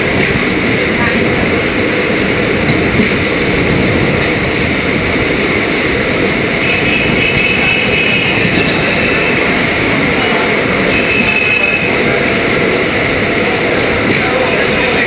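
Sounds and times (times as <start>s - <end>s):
train wheel and track noise: 0.0s - 15.0s.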